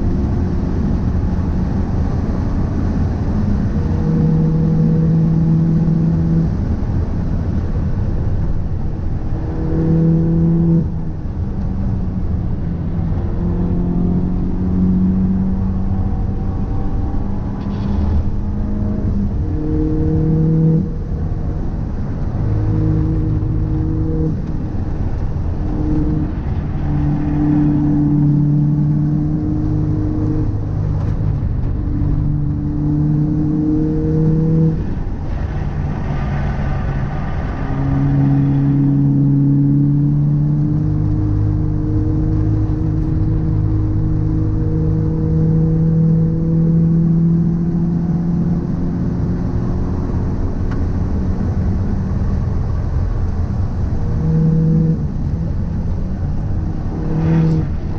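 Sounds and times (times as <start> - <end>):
car engine drone: 0.0 - 57.9
road rumble: 0.0 - 57.9.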